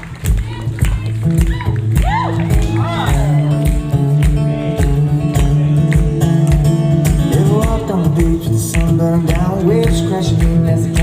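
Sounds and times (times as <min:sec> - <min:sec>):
acoustic guitar: 0:00.0 - 0:11.0
bass guitar: 0:00.0 - 0:11.0
kick drum beat: 0:00.0 - 0:11.0.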